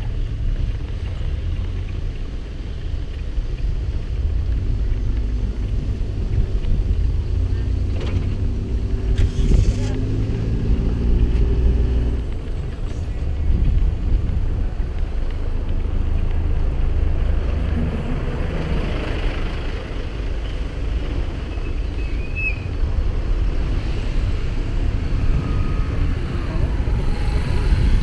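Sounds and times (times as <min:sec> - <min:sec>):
vehicle engine hum: 0:00.0 - 0:28.0
wind rumble on microphone: 0:00.0 - 0:28.0.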